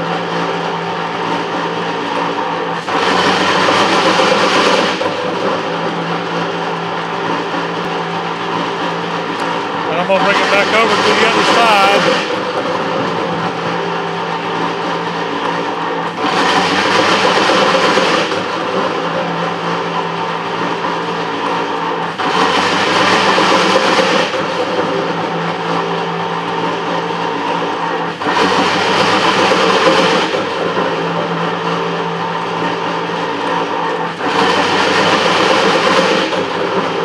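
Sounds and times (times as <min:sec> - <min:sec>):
metal planer machine drone: 0:00.0 - 0:37.0.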